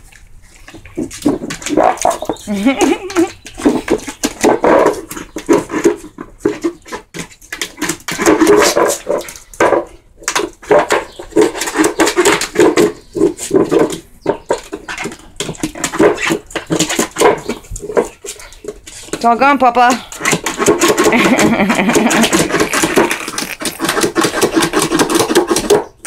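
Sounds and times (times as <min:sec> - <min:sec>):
water bowl scraping on concrete: 0:00.0 - 0:26.0.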